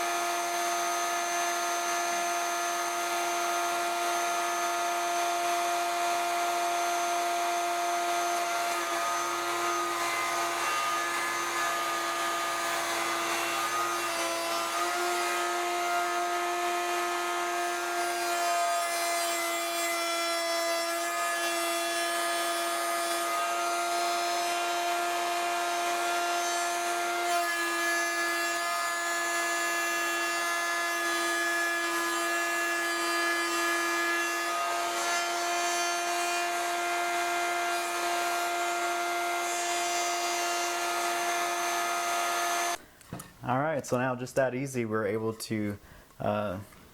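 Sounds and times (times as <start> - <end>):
router whining while cutting wood: 0.0 - 42.8.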